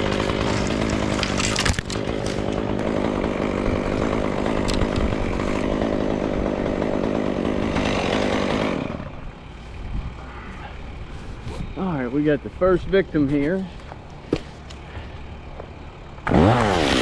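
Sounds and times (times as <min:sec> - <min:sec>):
chainsaw running: 0:00.0 - 0:17.0.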